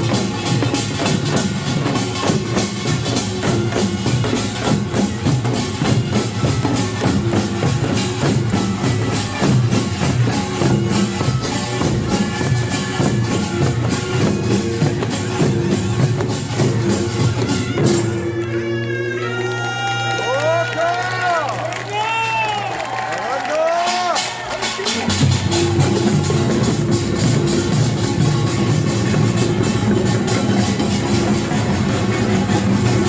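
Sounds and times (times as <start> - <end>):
percussion band with gongs and drums: 0.0 - 33.0.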